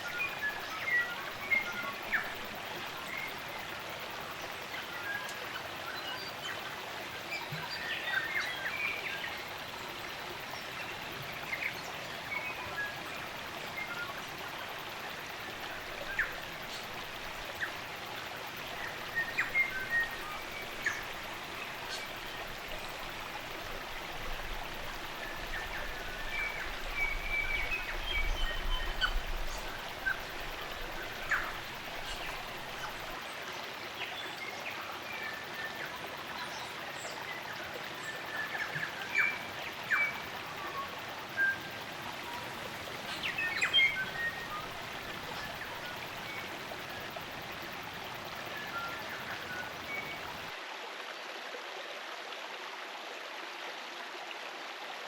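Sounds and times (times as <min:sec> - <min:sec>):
forest birds chirping: 0:00.0 - 0:50.6
stream running: 0:00.0 - 0:55.0.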